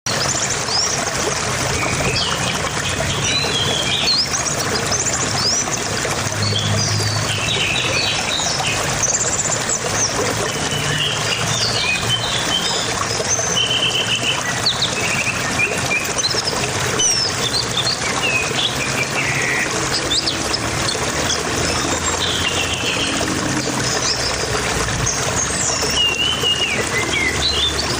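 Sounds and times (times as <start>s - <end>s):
small birds chirping: 0.1s - 27.9s.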